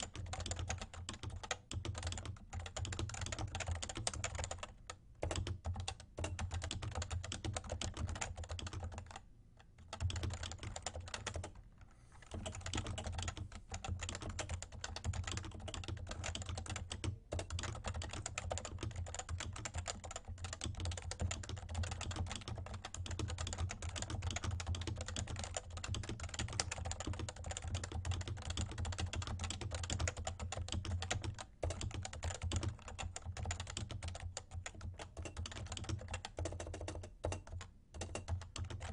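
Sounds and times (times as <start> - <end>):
fast typing on keyboard: 0.0 - 11.6, 12.2 - 38.9.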